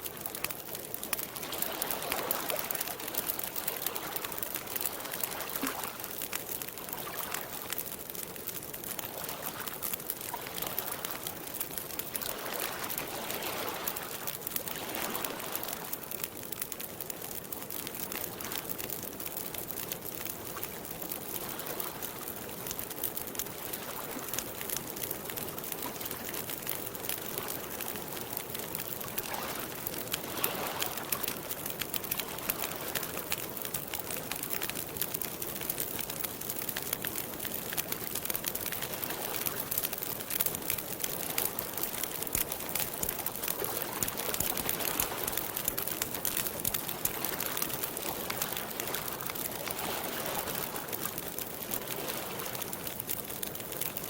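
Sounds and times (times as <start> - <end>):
campfire crackling: 0.0 - 54.0
water lapping at shore: 0.0 - 54.0.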